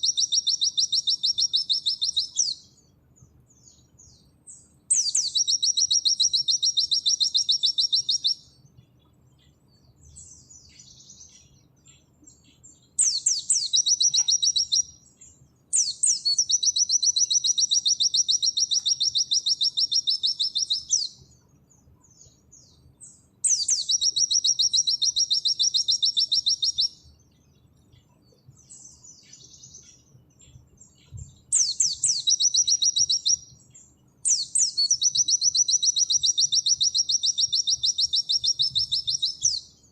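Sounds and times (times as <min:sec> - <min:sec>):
soft bird twittering: 0:00.0 - 0:39.9.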